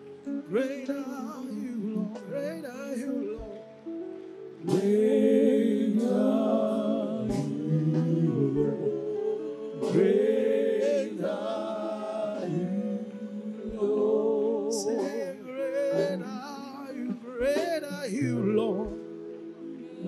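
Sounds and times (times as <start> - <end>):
gospel singing voices: 0.0 - 20.0.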